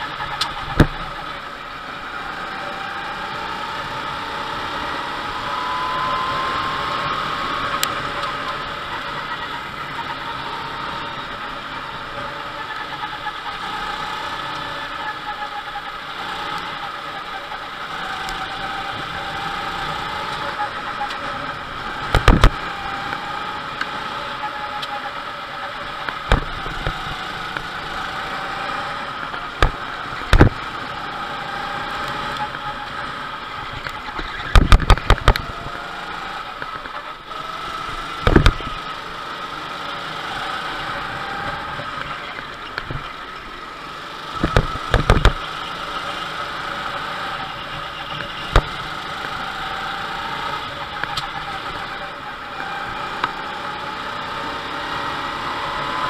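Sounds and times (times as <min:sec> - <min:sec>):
go-kart engine running: 0:00.0 - 0:56.0.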